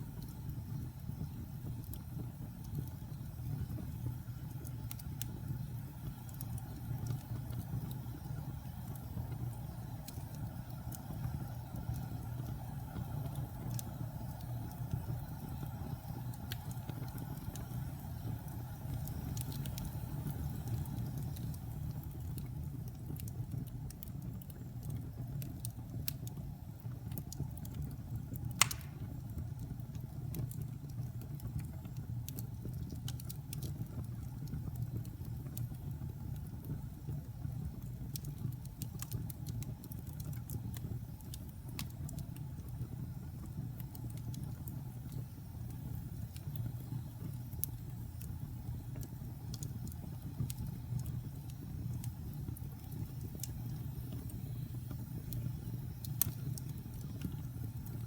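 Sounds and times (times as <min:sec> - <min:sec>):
fire crackles and pop: 0:00.0 - 0:58.0
wood fire rumbling: 0:00.0 - 0:58.0.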